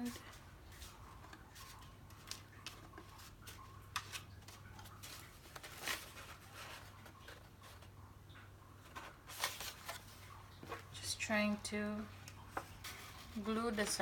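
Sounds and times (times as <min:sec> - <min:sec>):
paper rustling and crinkling: 0:00.0 - 0:08.0, 0:08.8 - 0:11.0, 0:12.5 - 0:14.0.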